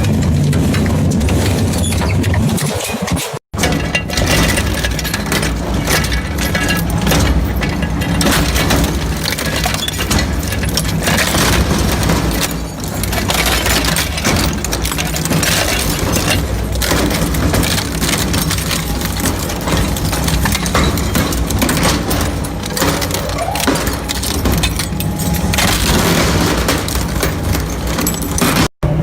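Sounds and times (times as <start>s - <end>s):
crushing machine humming: 0.0s - 29.0s.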